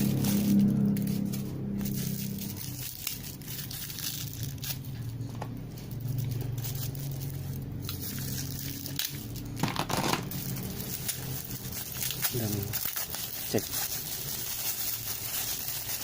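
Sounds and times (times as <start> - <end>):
plastic crinkling: 0.0 - 16.0.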